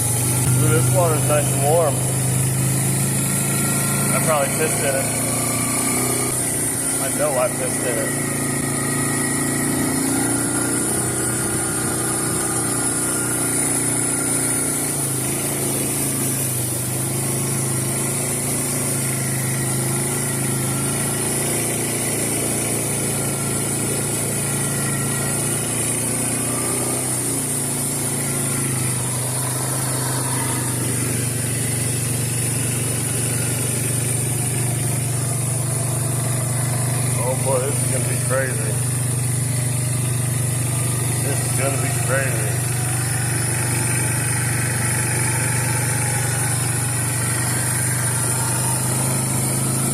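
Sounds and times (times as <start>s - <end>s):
atv engine running at low revs: 0.0s - 49.9s.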